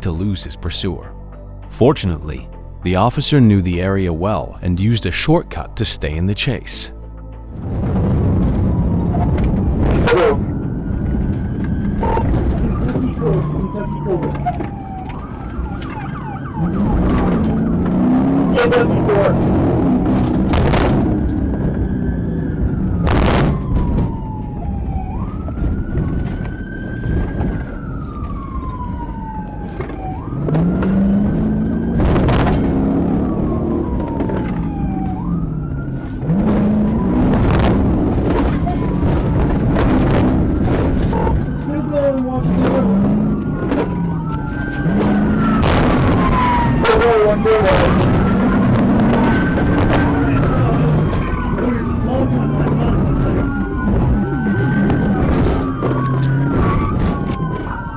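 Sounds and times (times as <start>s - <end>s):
car engine and road noise: 0.0s - 57.9s
police siren wailing: 1.8s - 57.9s.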